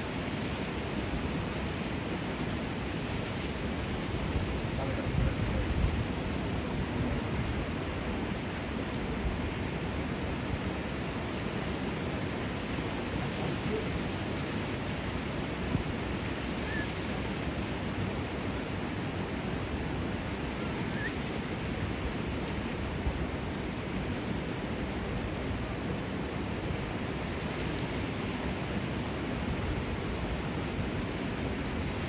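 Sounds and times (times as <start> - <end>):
flowing water rushing: 0.0 - 32.0.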